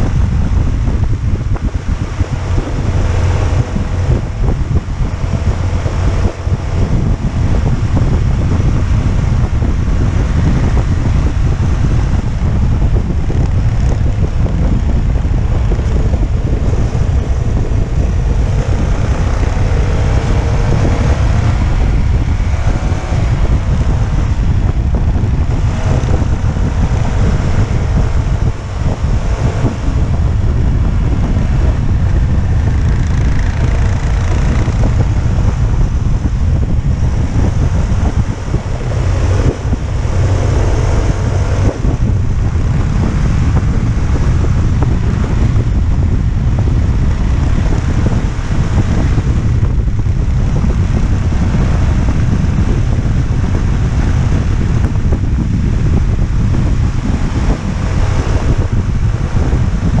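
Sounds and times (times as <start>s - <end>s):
motorcycle engine: 0.0s - 60.0s
wind buffeting microphone: 0.0s - 60.0s.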